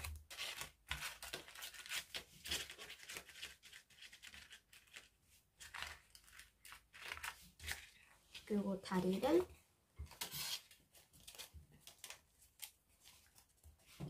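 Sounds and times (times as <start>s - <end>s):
paper rustling and crinkling: 0.0s - 9.4s, 10.0s - 14.0s.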